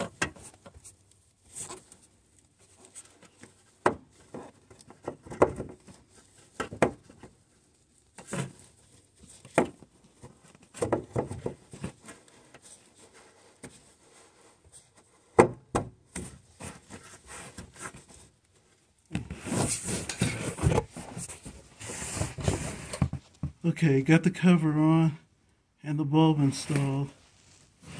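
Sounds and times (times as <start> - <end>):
rubbing and scraping: 0.0 - 15.4, 16.2 - 23.4, 26.4 - 27.9.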